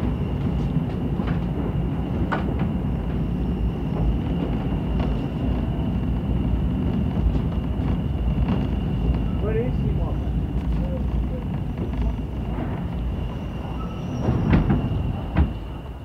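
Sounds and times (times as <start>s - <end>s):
diesel train engine rumble: 0.0s - 16.0s.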